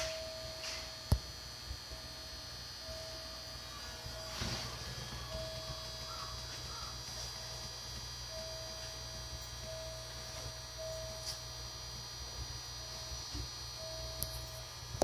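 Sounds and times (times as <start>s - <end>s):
high whine: 0.0s - 15.0s
train electrical equipment humming: 0.0s - 15.0s.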